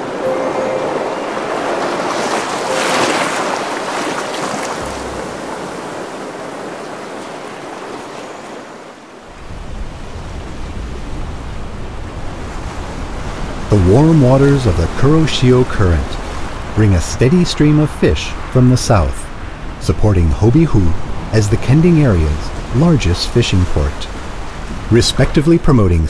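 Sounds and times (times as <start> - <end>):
sea surf washing over sand: 0.0 - 26.0.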